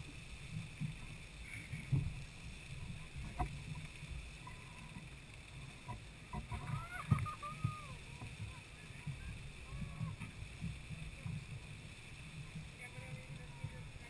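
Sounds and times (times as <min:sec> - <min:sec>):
geyser rumbling: 0:00.0 - 0:14.0.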